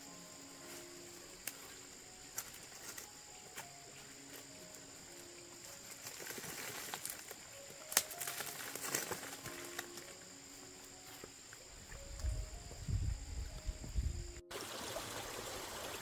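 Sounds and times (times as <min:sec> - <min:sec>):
rustling: 0:00.0 - 0:13.6
high-pitched insect drone: 0:00.0 - 0:14.5
soft background music: 0:00.0 - 0:16.0.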